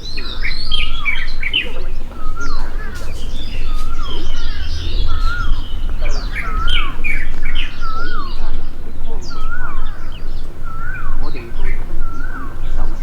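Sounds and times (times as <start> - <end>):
songbirds singing and chirping: 0.0 - 13.0
steady low rumble: 0.0 - 13.0
swooping whistled bird phrase: 0.0 - 13.0.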